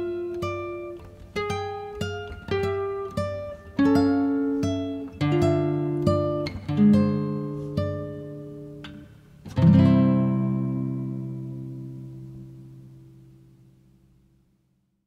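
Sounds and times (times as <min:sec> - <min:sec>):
acoustic guitar music: 0:00.0 - 0:14.6.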